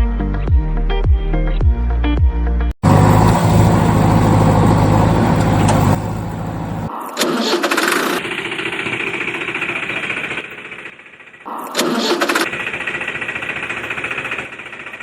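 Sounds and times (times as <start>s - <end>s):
thin high engine sound: 2.8s - 15.0s
tractor engine running: 2.8s - 15.0s.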